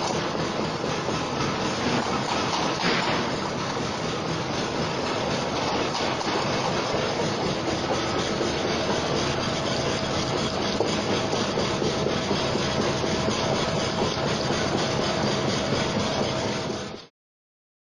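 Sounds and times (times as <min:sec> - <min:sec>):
bread dicing machine rattling: 0:00.0 - 0:17.1.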